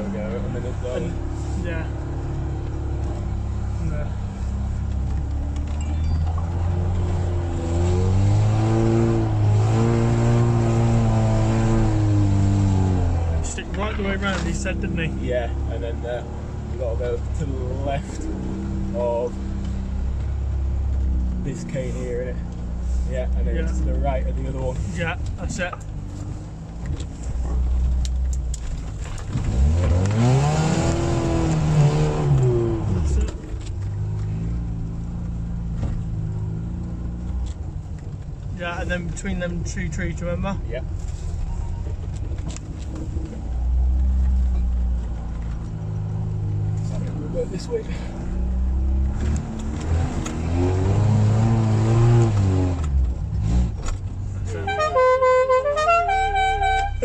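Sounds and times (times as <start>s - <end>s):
car engine revving: 0.0s - 41.3s, 42.2s - 57.0s.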